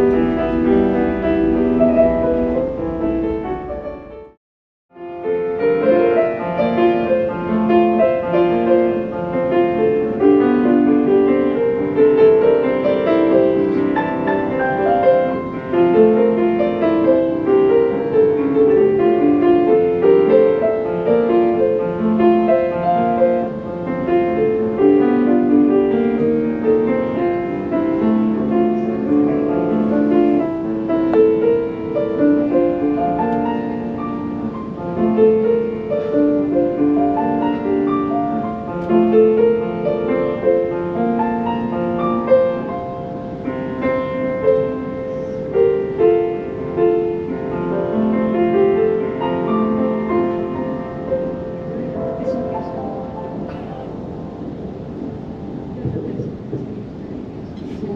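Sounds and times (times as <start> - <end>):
classical piano music: 0.0 - 57.9.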